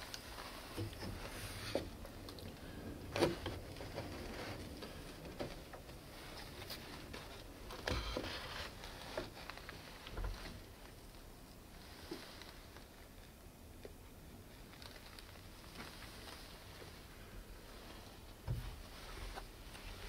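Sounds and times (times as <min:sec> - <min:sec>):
rustles and soft knocks: 0:00.0 - 0:14.0, 0:14.6 - 0:20.0
faint steady hiss: 0:00.0 - 0:20.0.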